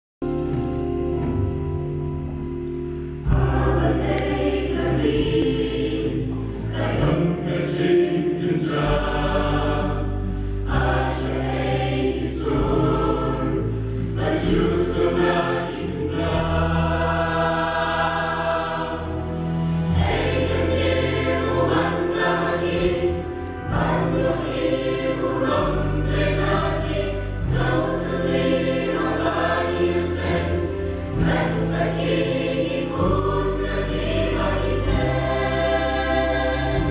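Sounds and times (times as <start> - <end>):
choir singing over bass line: 0.3 - 36.9.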